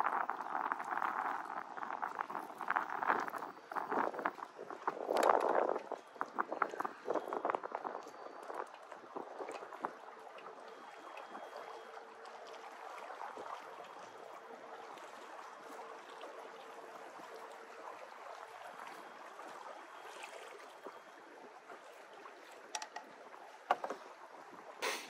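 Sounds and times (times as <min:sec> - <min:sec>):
water slapping boat hull: 0:00.0 - 0:24.7.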